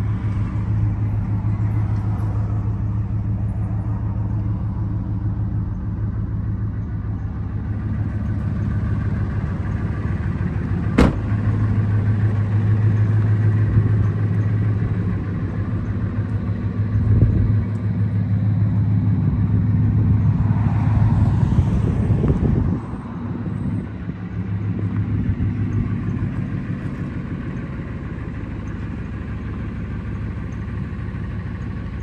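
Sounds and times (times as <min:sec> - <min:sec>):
pickup engine idling: 0:00.0 - 0:20.4, 0:23.5 - 0:32.0.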